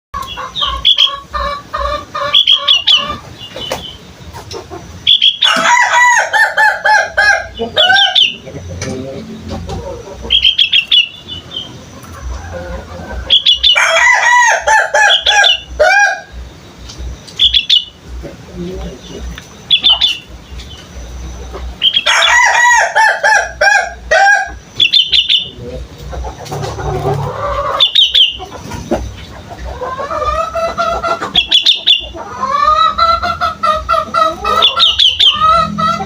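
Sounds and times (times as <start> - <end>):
bird warbling song: 0.2 - 1.3, 2.0 - 5.8, 6.8 - 36.0.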